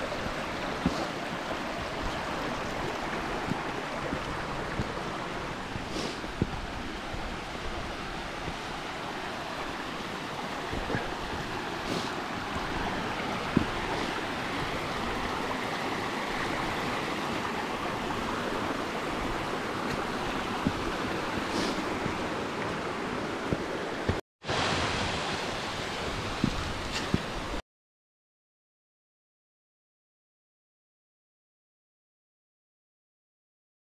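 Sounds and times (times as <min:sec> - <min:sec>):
stream rushing over rocks: 0:00.0 - 0:27.6.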